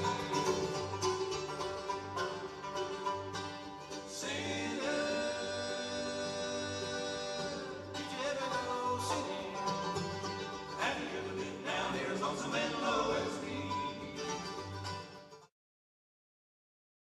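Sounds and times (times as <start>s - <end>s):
country music with singing: 0.0s - 15.5s.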